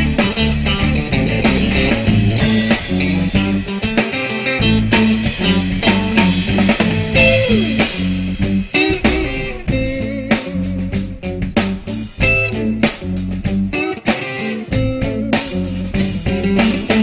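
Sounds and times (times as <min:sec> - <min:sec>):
bass guitar: 0:00.0 - 0:17.0
drum kit: 0:00.0 - 0:17.0
electric guitar lead: 0:00.0 - 0:17.0.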